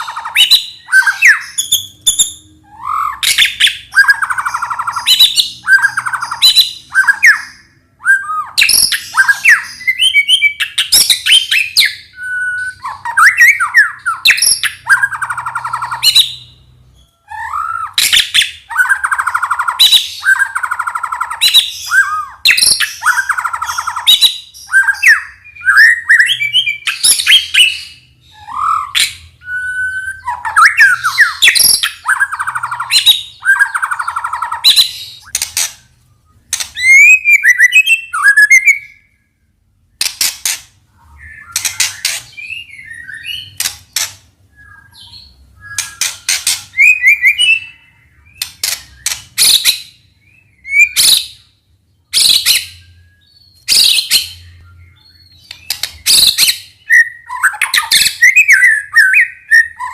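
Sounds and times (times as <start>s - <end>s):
songbird singing trills and whistles: 0.0s - 40.2s, 41.0s - 59.9s.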